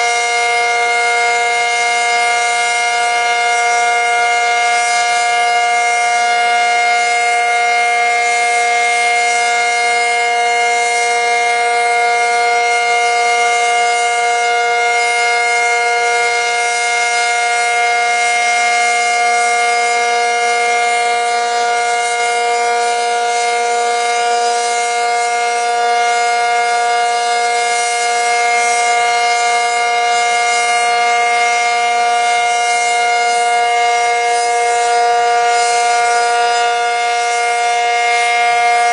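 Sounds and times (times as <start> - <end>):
warning siren steady chord: 0.0 - 38.9.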